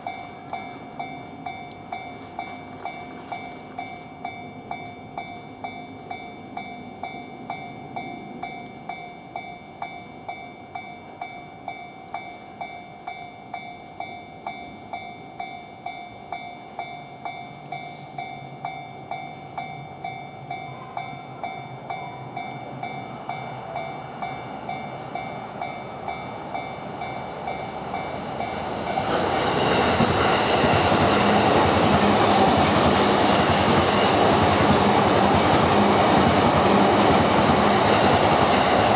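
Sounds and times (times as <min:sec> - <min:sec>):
level crossing warning bell: 0:00.0 - 0:38.9
train passing: 0:00.0 - 0:38.9.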